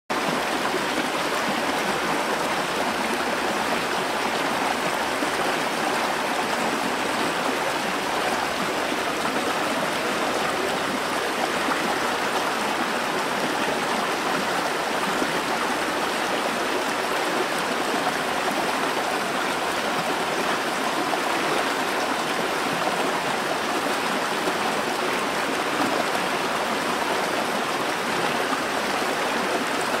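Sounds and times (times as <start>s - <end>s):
stream cascading over rocks: 0.1s - 30.0s.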